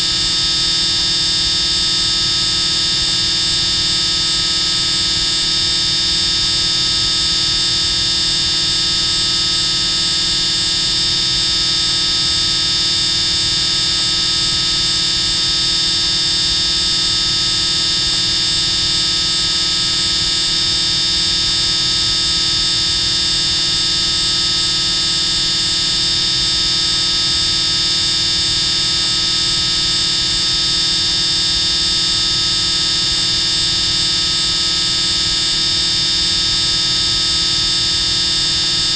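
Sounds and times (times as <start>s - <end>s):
loud high-pitched buzz: 0.0s - 38.9s.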